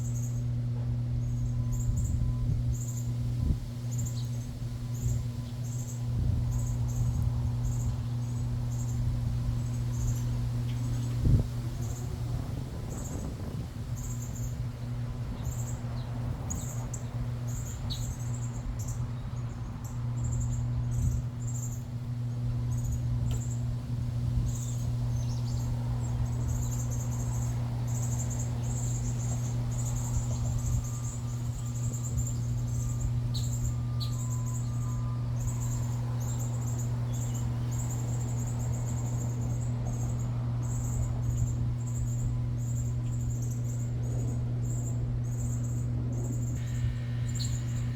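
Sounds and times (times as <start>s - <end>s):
small birds chirping: 0.0s - 47.9s
steady low hum: 0.0s - 47.9s.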